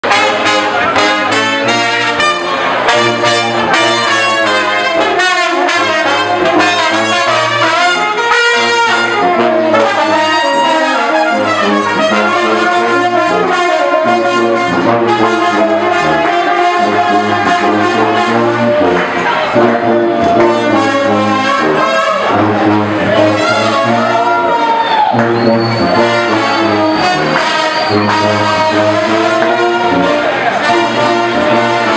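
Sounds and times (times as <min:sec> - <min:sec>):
brass band playing: 0:00.0 - 0:31.9.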